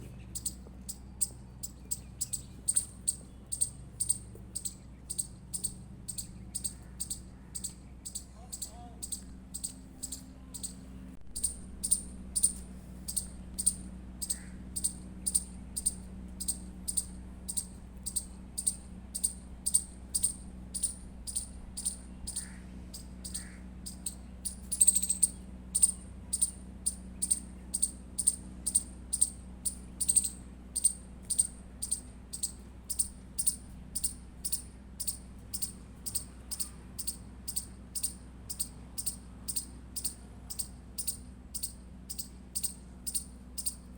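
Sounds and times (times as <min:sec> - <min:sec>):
squirrel chirping: 0:00.0 - 0:43.9.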